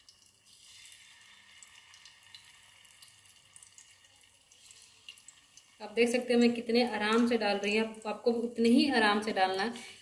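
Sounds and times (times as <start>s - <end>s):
paneer sizzling in hot oil: 0.0s - 10.0s.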